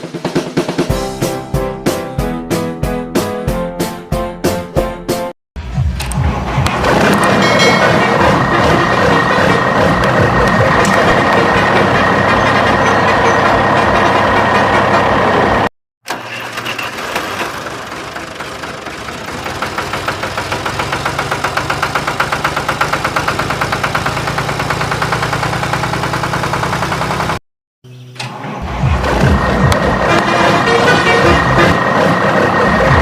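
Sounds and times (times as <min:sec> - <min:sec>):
engine starting and pulsing: 0:05.6 - 0:33.0.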